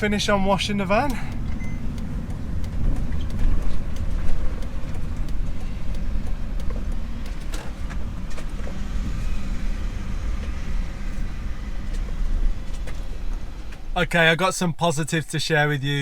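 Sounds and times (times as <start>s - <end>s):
van engine and road noise: 0.0s - 16.0s.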